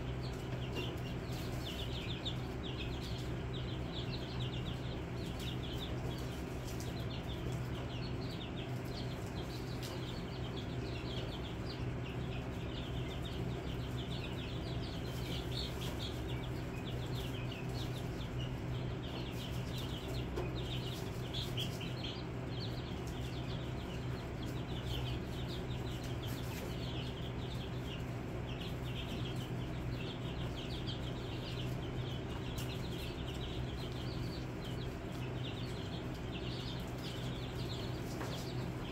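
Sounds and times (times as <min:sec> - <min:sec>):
chicks peeping: 0:00.0 - 0:38.9
steady low hum: 0:00.0 - 0:38.9.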